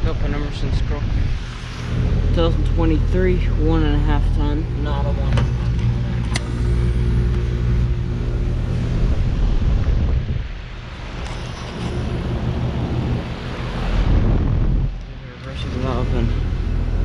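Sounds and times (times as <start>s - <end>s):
compressor humming: 0.0s - 17.0s
fan whooshing: 0.0s - 17.0s.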